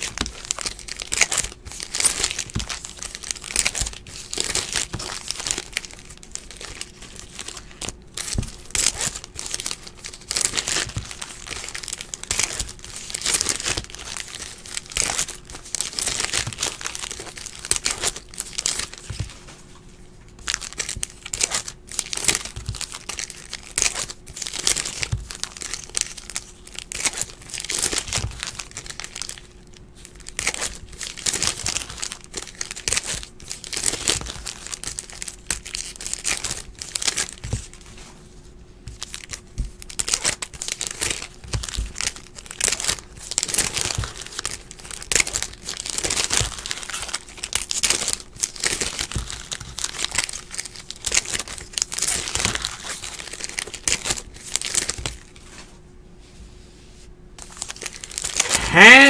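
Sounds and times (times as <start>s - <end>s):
foil wrappers crinkling and tearing: 0.0s - 55.8s, 57.4s - 59.0s.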